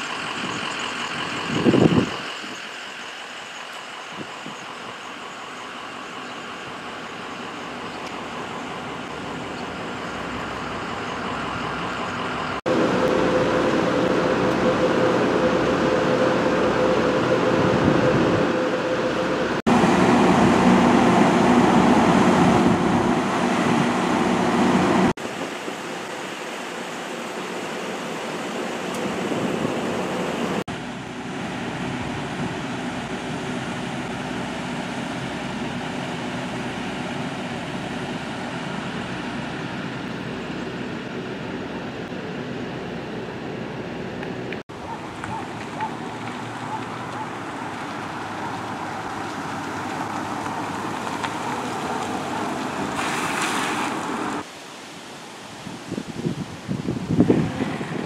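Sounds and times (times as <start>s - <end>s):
large vehicle engines running: 0.0s - 54.5s.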